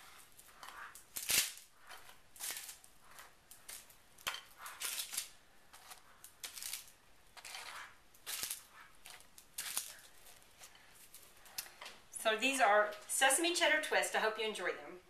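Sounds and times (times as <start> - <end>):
pastry crackling: 0.0 - 12.1.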